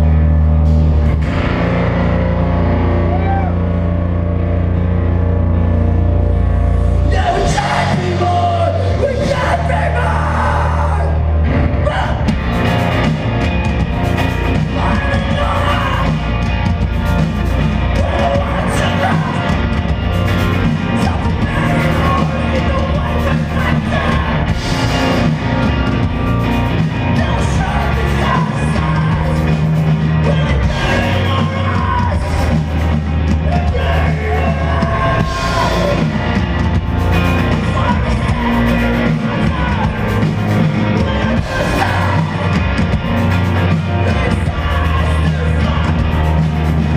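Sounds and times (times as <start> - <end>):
punk band playing: 0.0 - 46.9.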